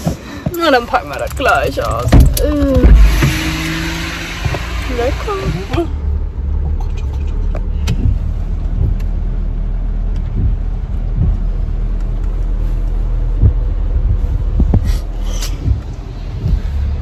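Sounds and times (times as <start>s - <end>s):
car cabin rumble: 0.0s - 17.0s
low thumps: 0.0s - 17.0s.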